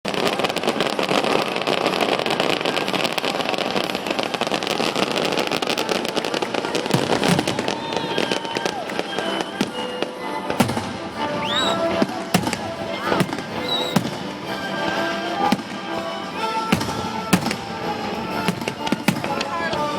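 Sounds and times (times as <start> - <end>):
fireworks bangs: 0.1 - 19.9
fireworks crackling: 0.1 - 19.9.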